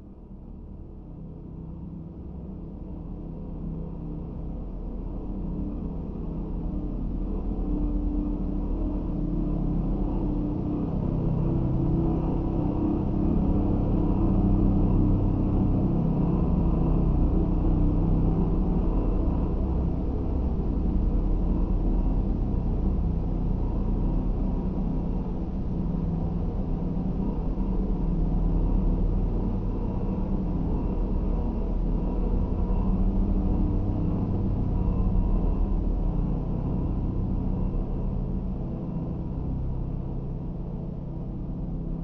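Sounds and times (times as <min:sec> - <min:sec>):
low hovering hum with held tones: 0:00.0 - 0:42.0.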